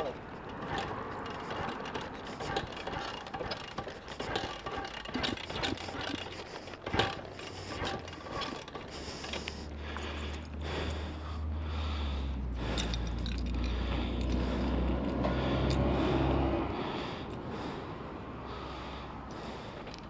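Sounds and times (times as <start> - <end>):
motorbike engine idling: 0.0 - 20.0.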